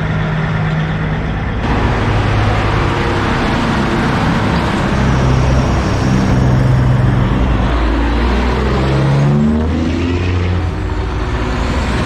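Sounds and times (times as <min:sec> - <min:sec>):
truck diesel engine accelerating: 0:00.0 - 0:12.0.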